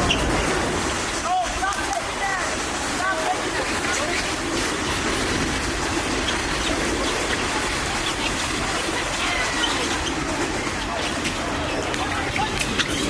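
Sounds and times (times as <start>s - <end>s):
crowd and room noise: 0.0s - 13.0s.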